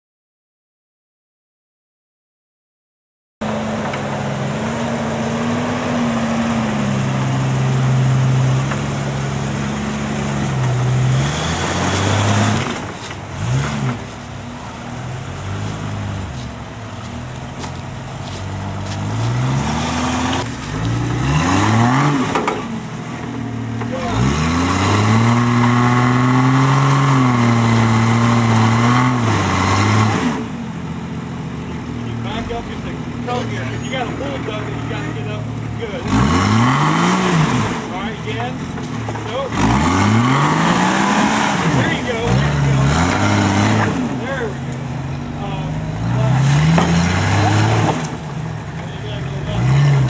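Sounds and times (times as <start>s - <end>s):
engine revving under load: 3.4s - 50.0s.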